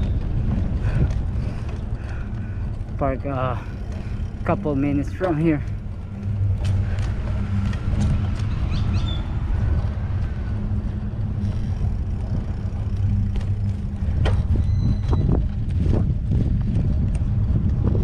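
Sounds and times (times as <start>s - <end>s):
car engine humming: 0.0s - 18.0s.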